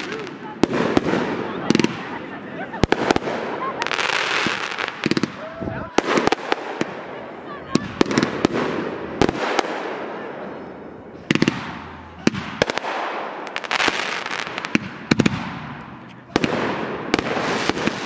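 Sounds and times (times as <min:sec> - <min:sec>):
fireworks bursting with crackle: 0:00.0 - 0:18.0.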